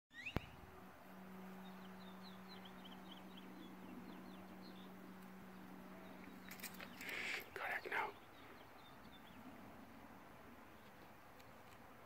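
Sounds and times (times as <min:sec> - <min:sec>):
bird chirping: 0:00.1 - 0:00.6, 0:01.4 - 0:11.9
steady low hum: 0:00.2 - 0:12.0.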